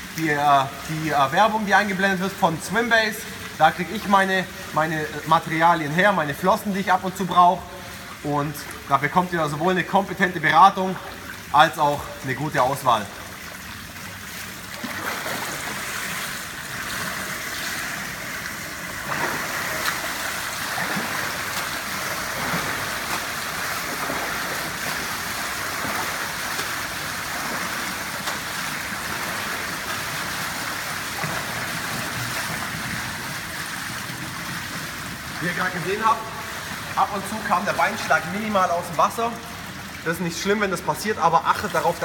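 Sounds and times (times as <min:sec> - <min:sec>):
water churning and splashing: 0:00.0 - 0:42.0.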